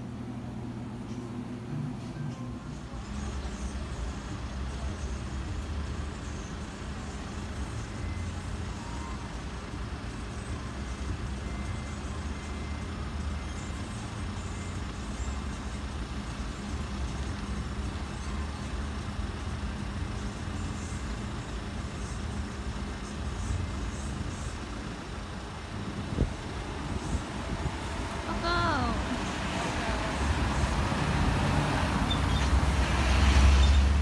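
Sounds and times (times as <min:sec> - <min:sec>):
traffic engine rumble: 0:00.0 - 0:34.0.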